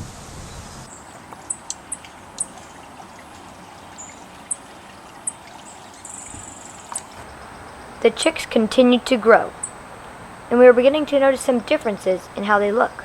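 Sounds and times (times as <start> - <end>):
small birds chipping: 0.4 - 13.0
water trickling: 0.8 - 13.0.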